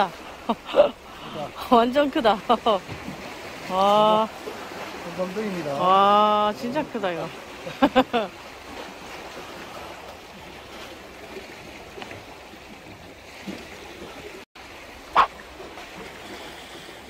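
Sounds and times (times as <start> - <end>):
sea water lapping against rocks: 0.0 - 17.0.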